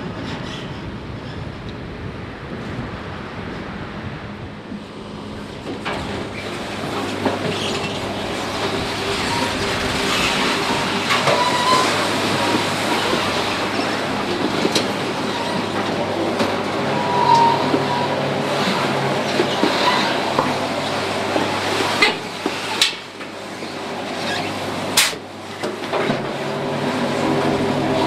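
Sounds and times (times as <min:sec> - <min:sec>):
metal roller grinding and clanking: 0:05.4 - 0:28.0.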